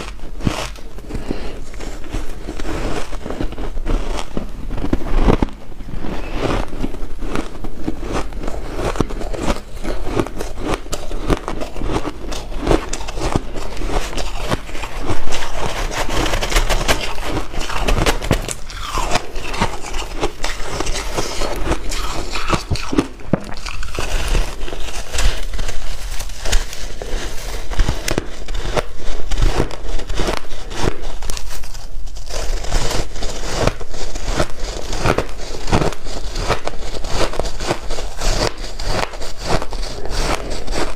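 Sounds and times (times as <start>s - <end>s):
ice crunching while chewing: 0.0s - 40.9s.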